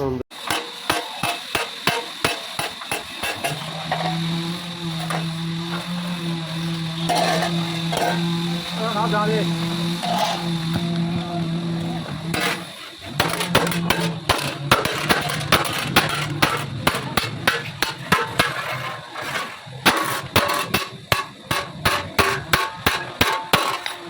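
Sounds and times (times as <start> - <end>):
hammer striking metal: 0.3 - 24.0.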